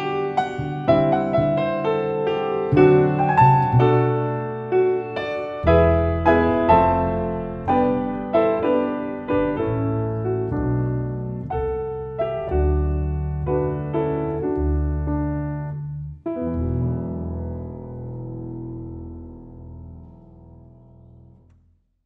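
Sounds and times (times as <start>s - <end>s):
double bass low notes: 0.0s - 21.6s
piano chords: 0.0s - 21.6s.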